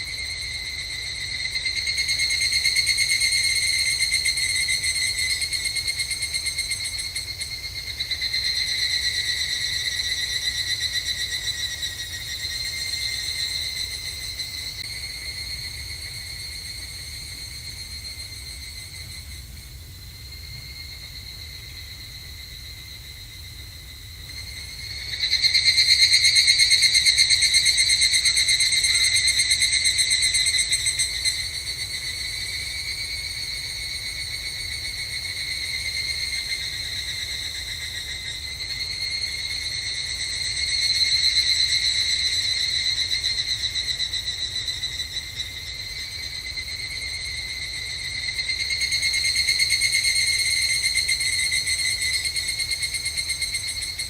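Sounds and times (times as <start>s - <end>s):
cicadas trilling: 0.0s - 54.0s.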